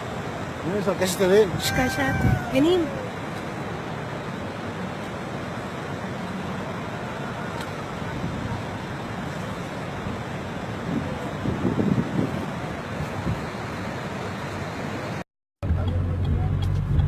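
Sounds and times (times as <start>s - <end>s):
floodwater rushing: 0.0s - 15.2s.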